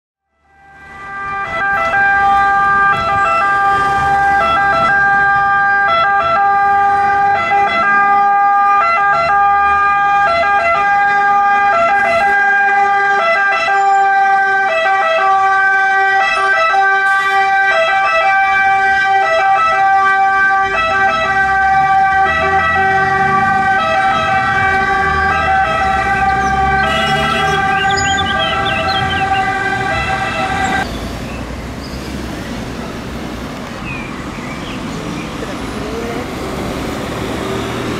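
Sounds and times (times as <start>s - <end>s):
fire engine siren: 0.2s - 30.9s
truck engine and road rumble: 0.2s - 37.9s.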